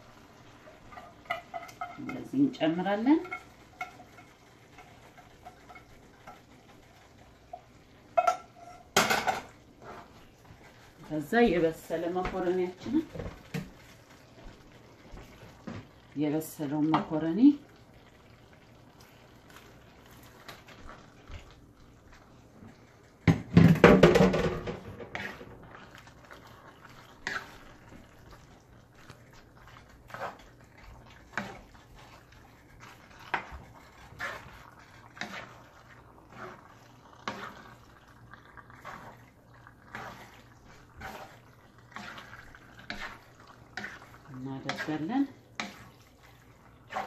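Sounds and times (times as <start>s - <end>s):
pasta sliding into a skillet: 0.0s - 16.0s, 16.6s - 23.3s, 24.7s - 47.0s
spatula stirring thick sauce: 0.0s - 47.0s.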